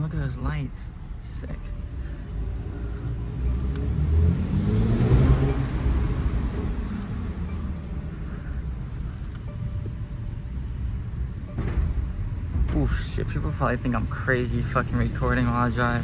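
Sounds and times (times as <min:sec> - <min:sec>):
car engine accelerating: 0:00.9 - 0:16.0.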